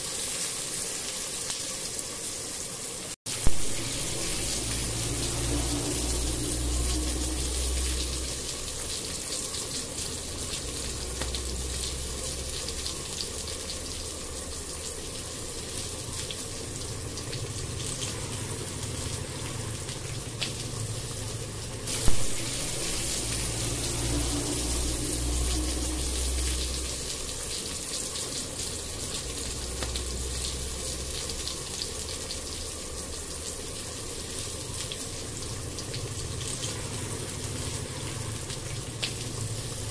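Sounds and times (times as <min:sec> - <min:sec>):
curry bubbling in a wok: 0:00.0 - 0:39.9.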